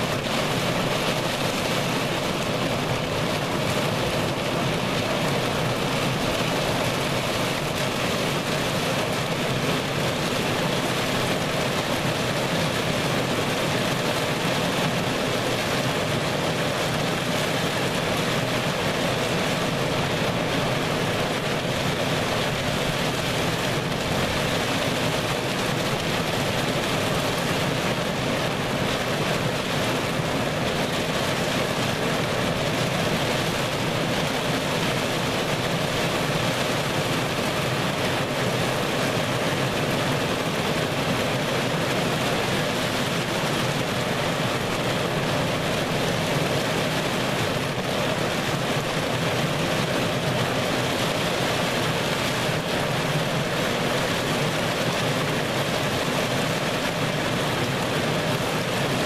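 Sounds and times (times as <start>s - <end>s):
heavy rain pelting a car: 0.0s - 59.0s.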